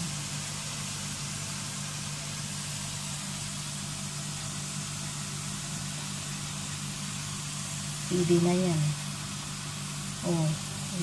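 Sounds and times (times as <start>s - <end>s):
chicken sizzling in hot oil: 0.0s - 11.0s
low mechanical hum: 0.0s - 11.0s.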